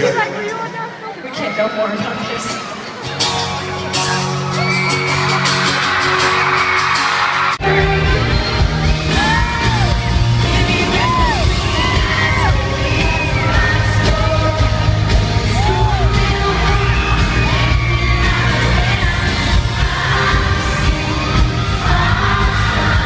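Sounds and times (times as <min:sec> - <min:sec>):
amplified band playing: 0:01.7 - 0:23.0
fans screaming and whooping: 0:02.3 - 0:23.0.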